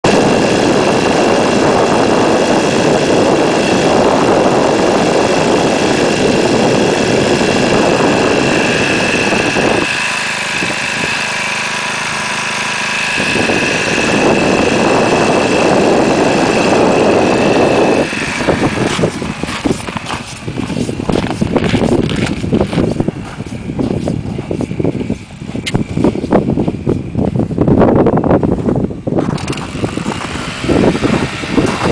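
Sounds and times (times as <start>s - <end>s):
small engine running: 0.0s - 31.9s
uneven choppy noise: 0.0s - 31.9s.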